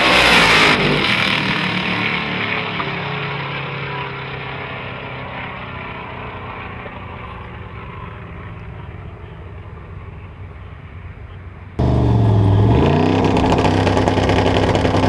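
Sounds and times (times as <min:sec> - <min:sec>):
drag car engines racing: 0:00.0 - 0:10.5, 0:11.8 - 0:15.0.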